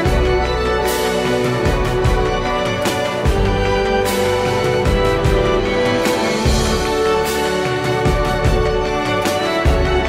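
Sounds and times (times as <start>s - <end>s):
theme music with bass line: 0.0s - 10.0s.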